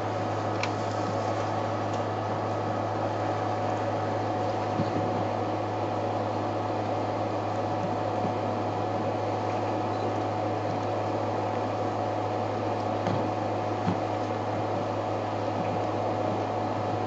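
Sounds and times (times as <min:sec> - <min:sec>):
low hum with hiss: 0:00.0 - 0:17.0.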